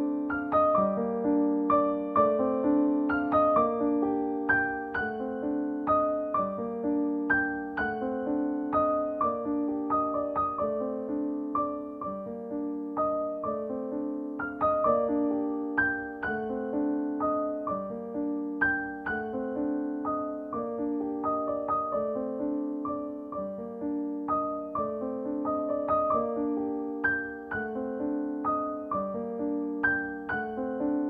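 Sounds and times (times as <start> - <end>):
gentle solo piano: 0.0 - 31.0.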